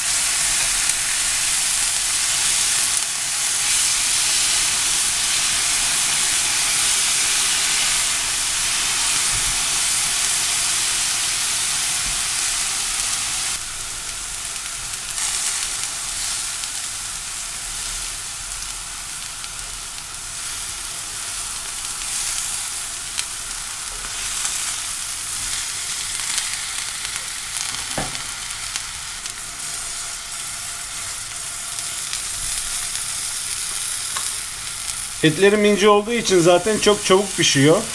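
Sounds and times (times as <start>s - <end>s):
beef sizzling in a pan: 0.0s - 37.9s.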